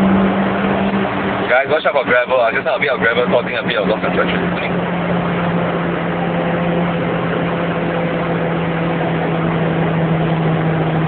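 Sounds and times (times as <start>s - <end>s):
car engine driven hard: 0.0s - 11.0s
road and wind noise: 0.0s - 11.0s.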